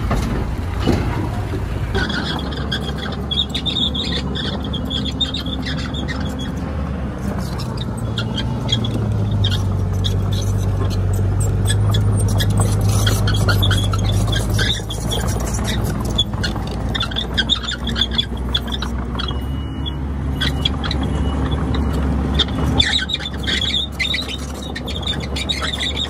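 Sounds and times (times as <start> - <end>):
bulldozer diesel engine running: 0.0 - 26.0
steel tracks squealing and clicking: 0.0 - 26.0.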